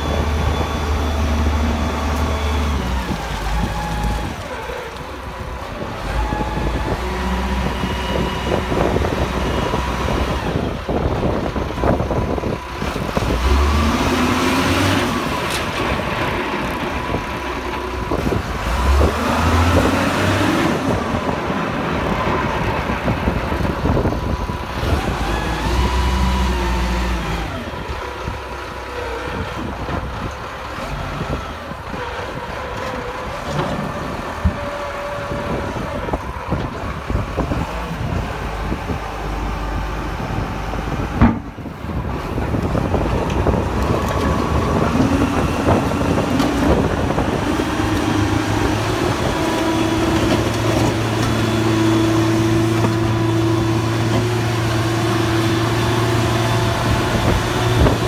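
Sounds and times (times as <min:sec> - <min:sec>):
diesel drill engine running: 0:00.0 - 0:58.0.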